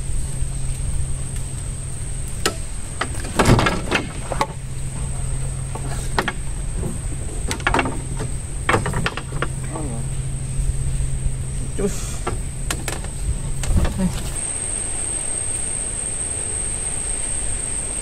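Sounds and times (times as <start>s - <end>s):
high-pitched whine: 0.0s - 18.0s
low hum: 0.0s - 18.0s.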